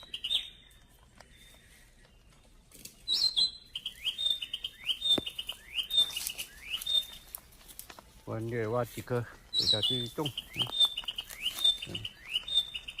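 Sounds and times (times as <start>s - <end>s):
bird chirping: 0.0s - 7.5s, 9.3s - 13.0s.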